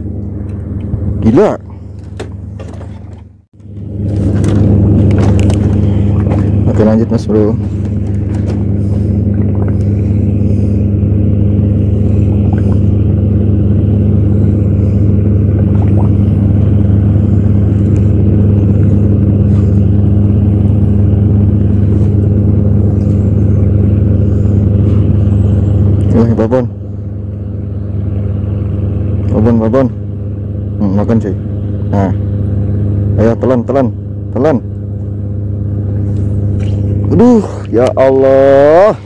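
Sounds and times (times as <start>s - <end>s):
motor engine running steadily: 0.0s - 39.0s.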